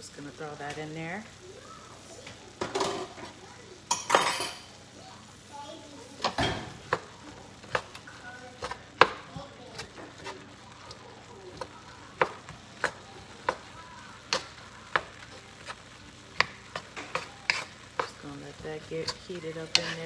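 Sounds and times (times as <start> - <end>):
faint frying sizzle: 0.0 - 20.0.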